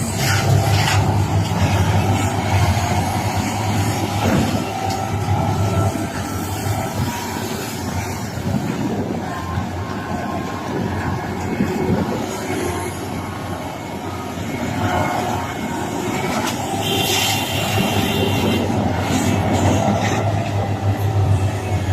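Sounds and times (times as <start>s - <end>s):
excavator engine humming: 0.0s - 21.9s
high metallic squeal: 0.0s - 21.9s.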